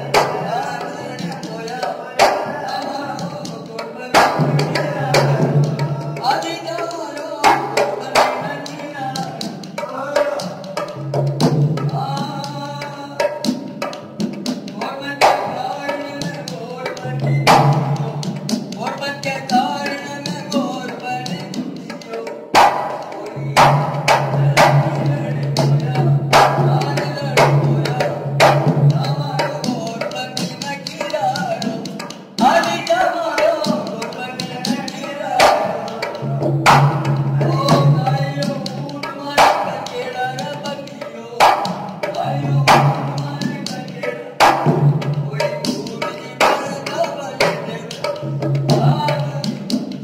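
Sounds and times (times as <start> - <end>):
hand drum strikes: 0.0 - 6.5, 13.2 - 21.9, 22.5 - 40.8, 41.4 - 50.0.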